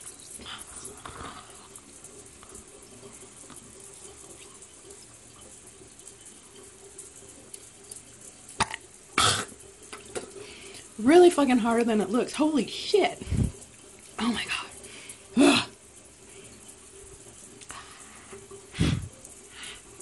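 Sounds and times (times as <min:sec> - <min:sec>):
water pick humming: 0:00.0 - 0:20.0.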